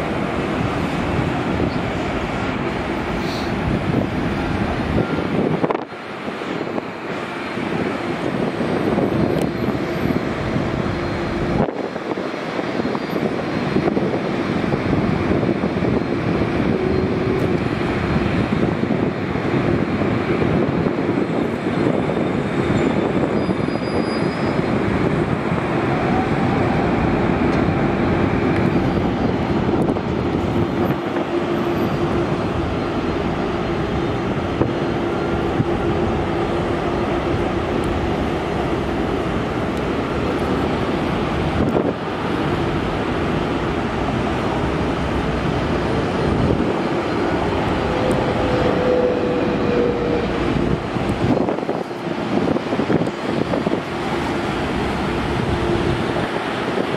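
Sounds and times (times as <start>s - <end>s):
jet engines taxiing: 0.0s - 56.9s.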